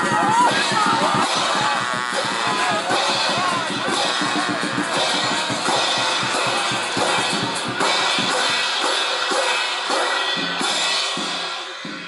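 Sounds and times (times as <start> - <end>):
crashing cymbals: 0.0 - 12.0
drums beaten in quick rhythm: 0.0 - 12.0.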